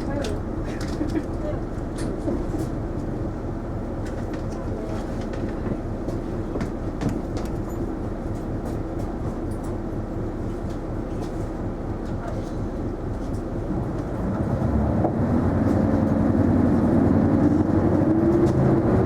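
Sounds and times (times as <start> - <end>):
bus engine and road rumble: 0.0 - 19.0
rattles and clicks from bus body: 0.0 - 19.0.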